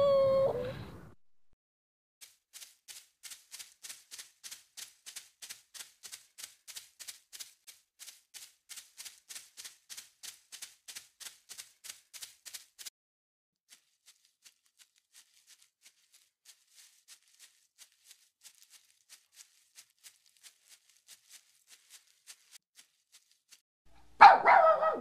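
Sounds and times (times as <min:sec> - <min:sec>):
dog paws pattering on hard floor: 0:02.2 - 0:12.9, 0:13.7 - 0:23.6.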